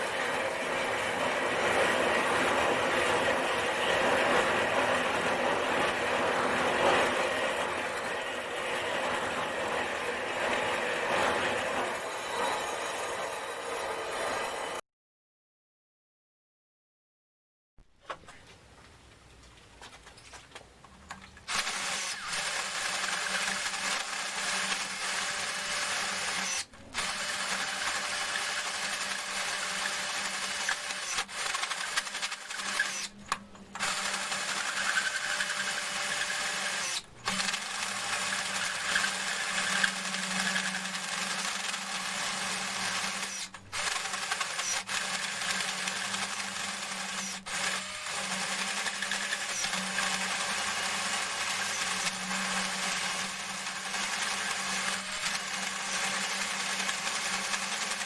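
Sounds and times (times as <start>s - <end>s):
electric drill cutting metal: 0.0s - 14.8s, 21.5s - 58.0s.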